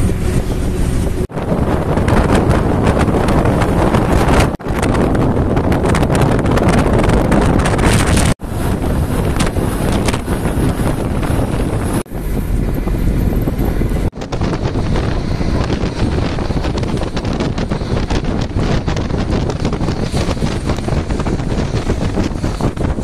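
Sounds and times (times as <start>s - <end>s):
bus road and engine noise: 0.0s - 23.0s
wind rushing over microphone: 0.0s - 23.0s.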